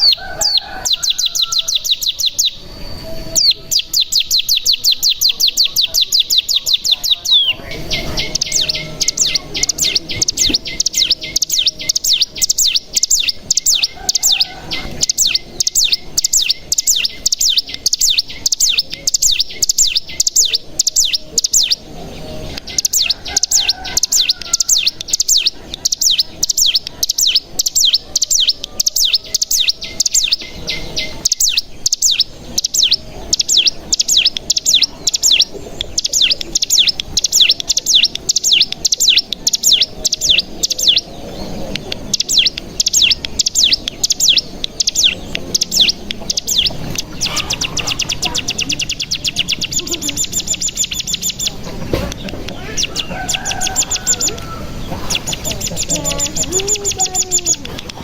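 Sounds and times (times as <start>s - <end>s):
bird singing rapid trill: 0.0s - 58.0s.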